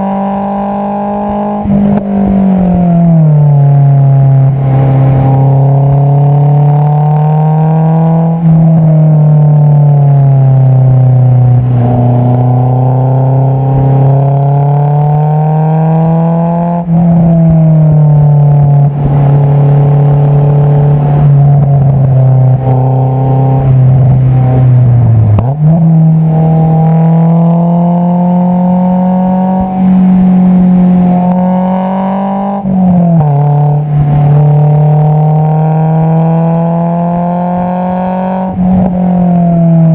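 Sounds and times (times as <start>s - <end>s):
car exhaust note while driving: 0.0s - 39.9s.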